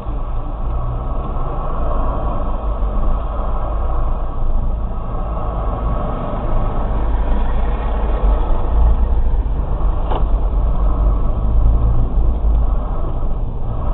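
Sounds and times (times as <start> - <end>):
car engine and road noise: 0.0 - 13.9.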